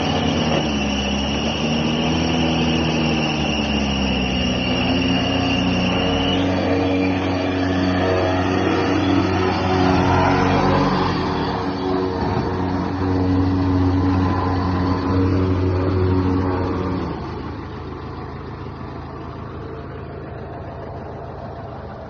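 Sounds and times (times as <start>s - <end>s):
pickup truck engine running hard: 0.0s - 22.0s.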